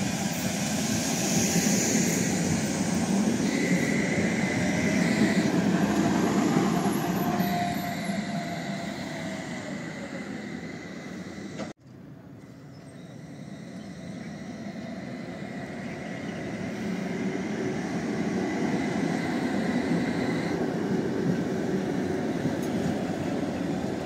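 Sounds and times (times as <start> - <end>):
faint high whine: 0.0 - 11.7, 12.3 - 24.0
tram wheels rumbling on rails: 0.0 - 24.0.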